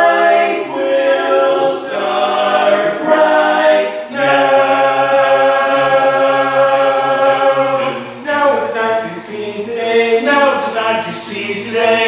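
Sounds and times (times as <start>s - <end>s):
men singing in close harmony: 0.0s - 12.0s.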